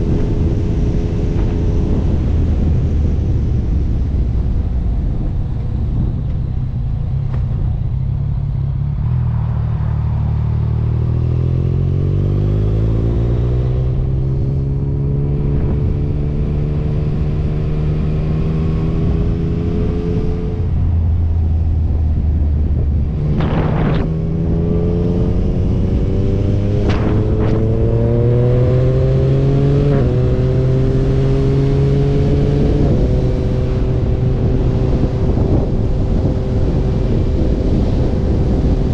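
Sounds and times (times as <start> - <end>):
motorcycle engine accelerating: 0.0 - 38.9
wind and road noise: 0.0 - 38.9.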